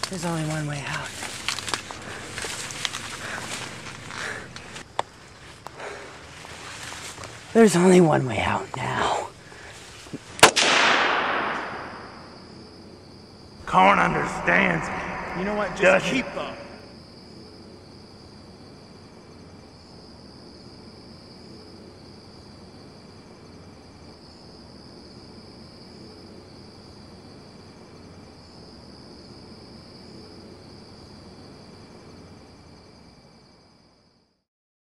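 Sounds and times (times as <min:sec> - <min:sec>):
crickets chirping: 0:00.0 - 0:34.4.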